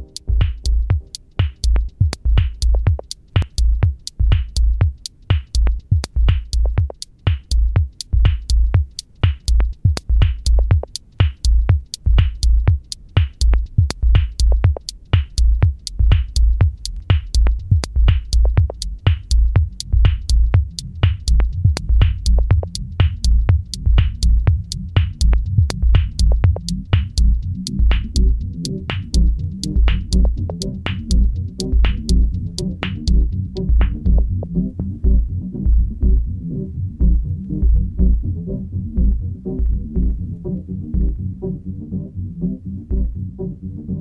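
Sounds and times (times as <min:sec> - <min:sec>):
electronic music with drum-machine beat: 0:00.0 - 0:44.0.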